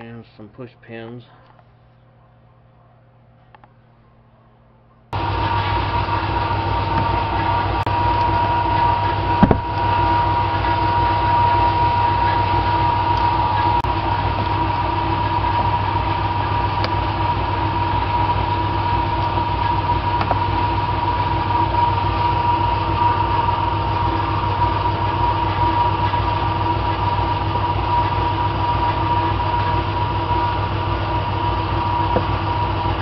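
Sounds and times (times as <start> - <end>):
motor drone with high whine: 3.4 - 33.0.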